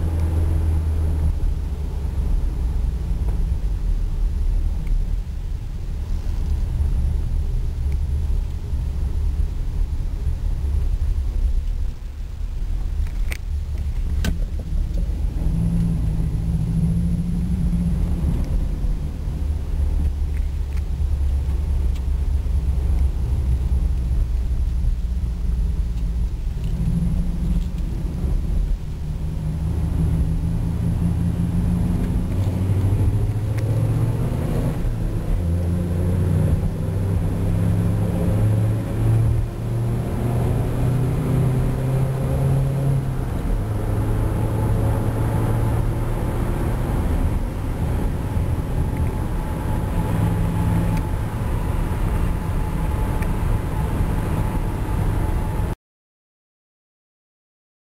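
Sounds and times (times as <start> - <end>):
car exhaust rumble: 0.0 - 55.8
tire road noise: 0.0 - 55.8.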